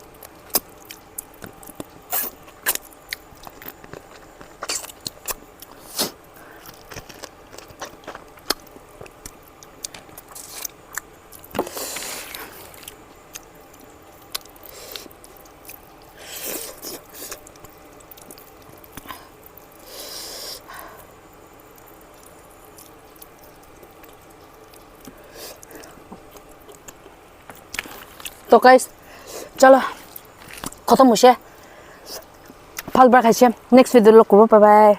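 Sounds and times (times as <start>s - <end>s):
chewing with wet mouth sounds: 0.0s - 33.0s.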